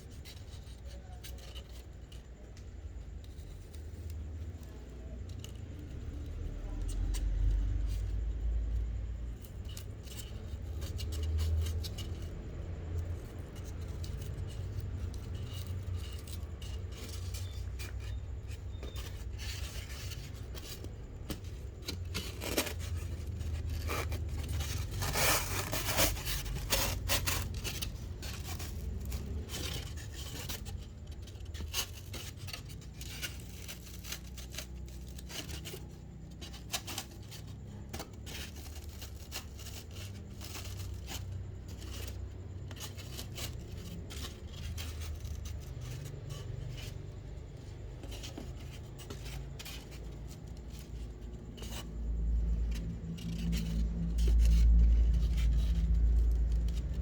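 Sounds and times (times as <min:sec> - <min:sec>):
hands scraping and clicking material: 0:00.0 - 0:57.0.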